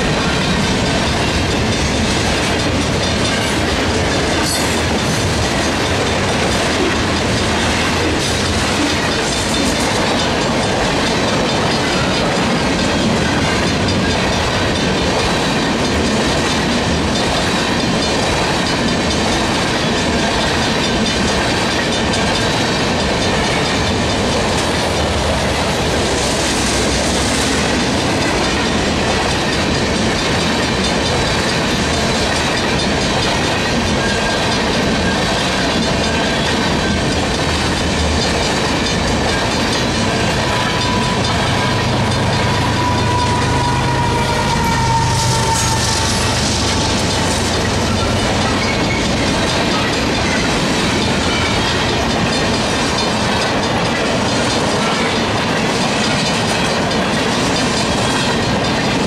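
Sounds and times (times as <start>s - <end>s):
crossing bell ringing: 0.0s - 54.0s
freight train wheels clacking: 0.0s - 59.0s.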